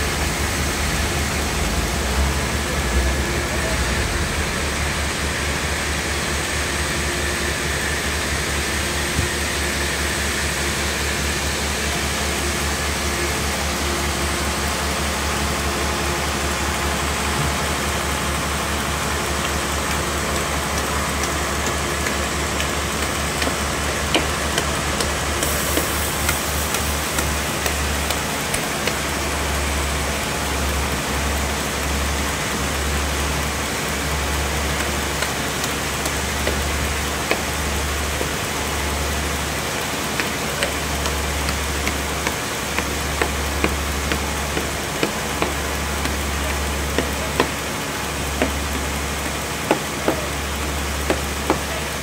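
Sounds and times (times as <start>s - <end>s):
band saw drone: 0.0s - 52.0s.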